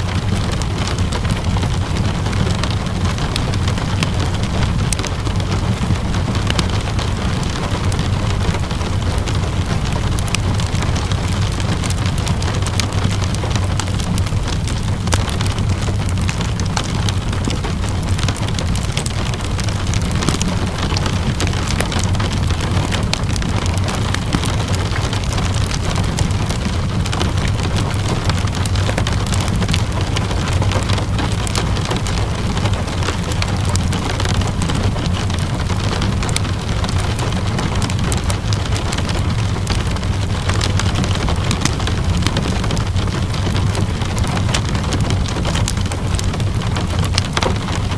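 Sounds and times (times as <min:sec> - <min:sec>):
steady rainfall: 0:00.0 - 0:47.9
wood fire crackling: 0:00.0 - 0:47.9.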